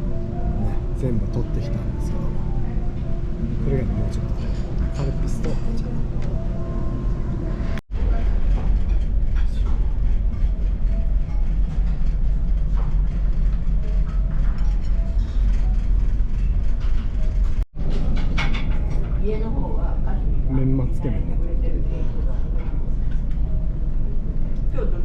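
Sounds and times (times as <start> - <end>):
ferry engines rumbling: 0.0 - 25.0.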